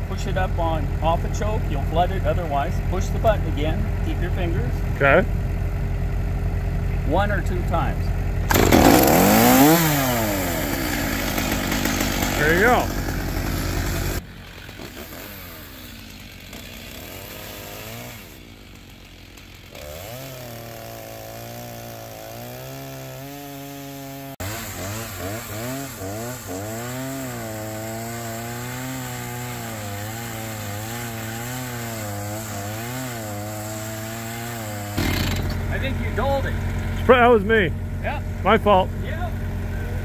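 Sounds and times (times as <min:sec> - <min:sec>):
chainsaw cutting log: 0:00.0 - 0:04.6, 0:08.5 - 0:37.2.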